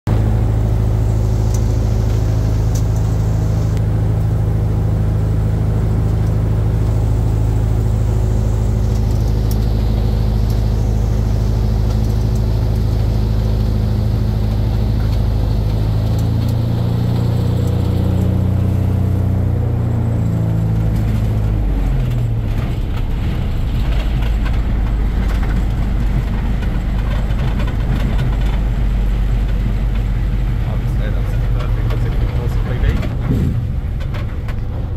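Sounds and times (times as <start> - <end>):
aircraft piston engine running: 0.1 - 34.9.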